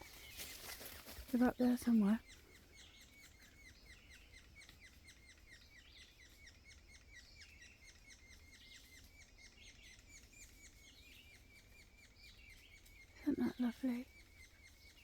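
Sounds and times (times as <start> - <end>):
baby squirrels chirping: 0.0 - 15.0.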